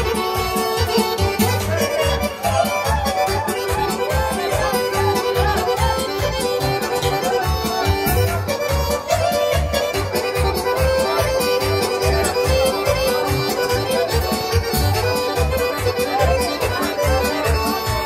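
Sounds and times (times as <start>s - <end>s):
amplified folk music with accordion: 0.0s - 18.0s
bass beat: 0.0s - 18.0s.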